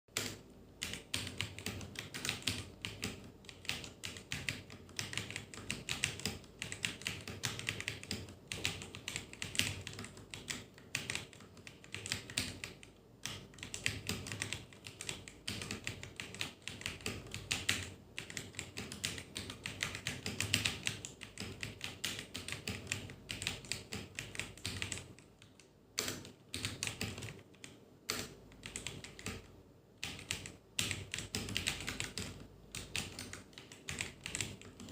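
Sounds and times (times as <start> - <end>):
mechanical keyboard typing: 0.1 - 34.9.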